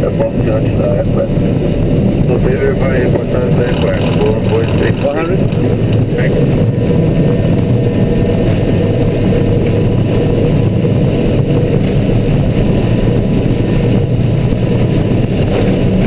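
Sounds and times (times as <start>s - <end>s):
jet engines rumbling: 0.0s - 16.0s
wheels rolling on runway: 1.6s - 16.0s.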